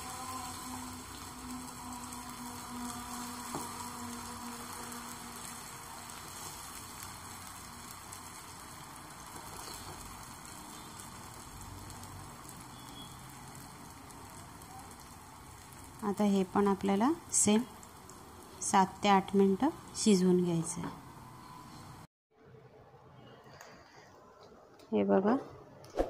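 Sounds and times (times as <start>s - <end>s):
batter sizzling in hot oil: 0.0s - 22.1s.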